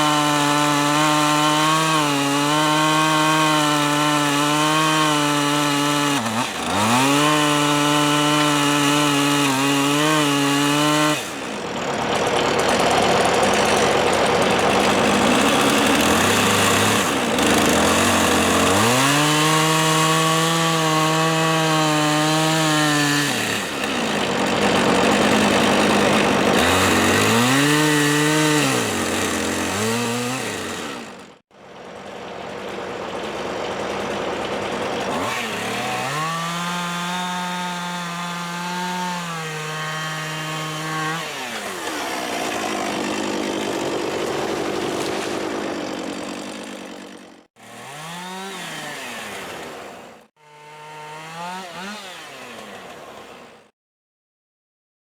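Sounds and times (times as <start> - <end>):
chainsaw cutting wood: 0.0 - 53.7.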